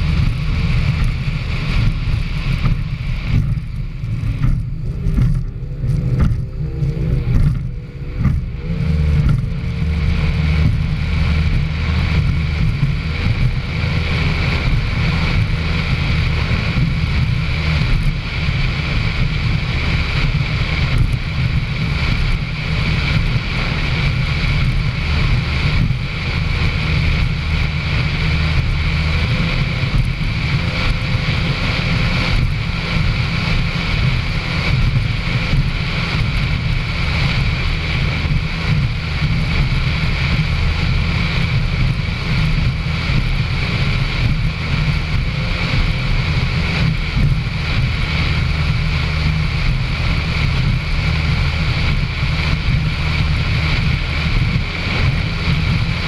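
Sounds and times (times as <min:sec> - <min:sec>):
powerboat engine drone: 0:00.0 - 0:56.0
wind buffeting microphone: 0:00.0 - 0:56.0.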